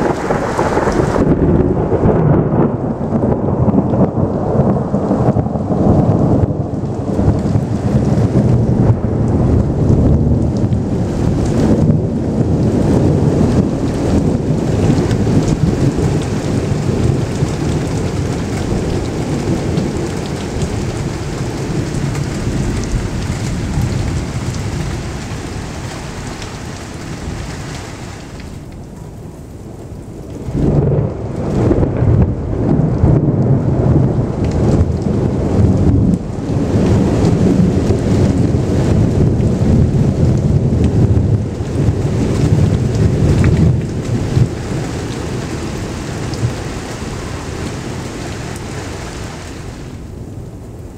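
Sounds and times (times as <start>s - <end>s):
rain: 0.0s - 50.9s
thunder rumbling: 0.0s - 50.9s.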